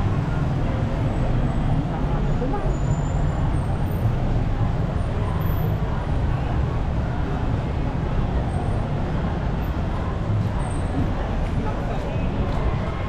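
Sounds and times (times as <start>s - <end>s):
murmur of crowd voices: 0.0s - 13.0s.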